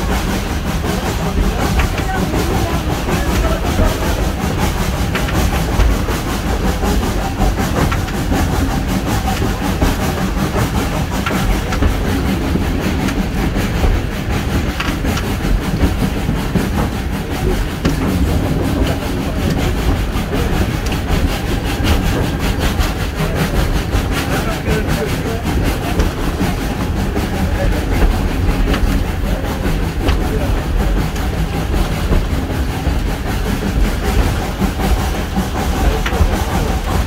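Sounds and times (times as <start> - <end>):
train wheels rumbling on rails: 0.0 - 37.0
wheels clacking over rail joints: 0.0 - 37.0.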